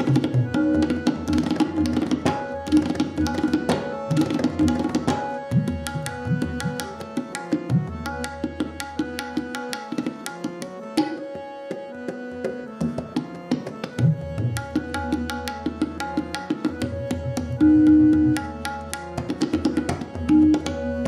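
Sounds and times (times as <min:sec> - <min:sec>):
harmonium melody: 0:00.0 - 0:21.0
tabla playing fast strokes: 0:00.0 - 0:21.0.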